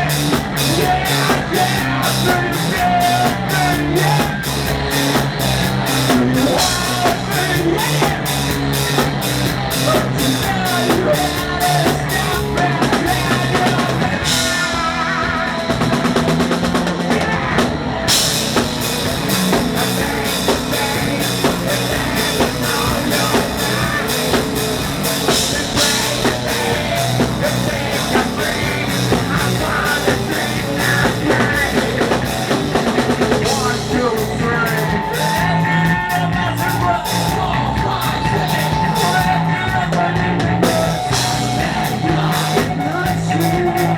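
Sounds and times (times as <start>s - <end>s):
person singing: 0.0s - 5.2s, 5.9s - 43.9s
drum kit: 0.0s - 43.9s
rock band playing: 0.0s - 43.9s.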